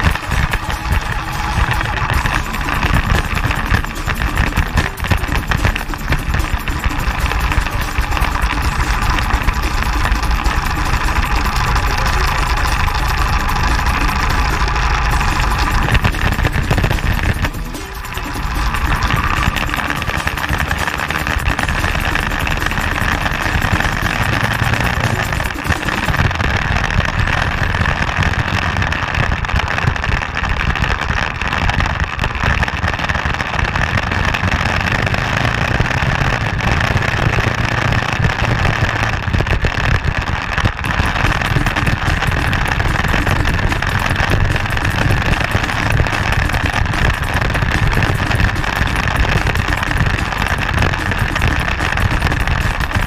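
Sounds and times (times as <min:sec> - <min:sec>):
motorcycle engine running: 0:00.0 - 0:53.0
wind noise: 0:00.0 - 0:53.0.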